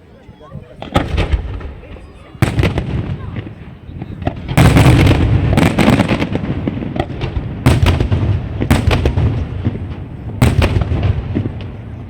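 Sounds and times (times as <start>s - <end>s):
fireworks bangs: 0.7s - 12.0s
low rumbling echo: 0.7s - 12.0s
fireworks crackles: 0.8s - 12.0s.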